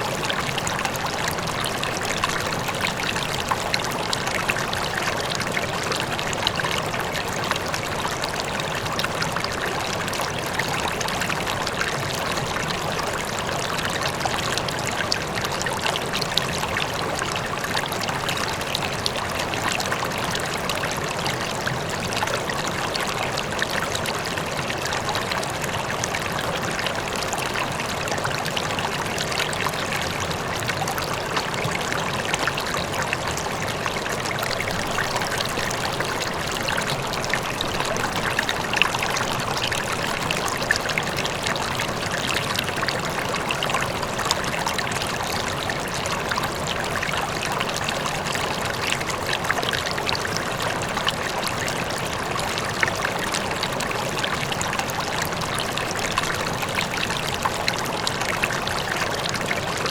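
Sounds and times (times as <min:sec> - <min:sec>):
faint distant waterfall: 0:00.0 - 0:59.9
river water rushing and trickling: 0:00.0 - 0:59.9.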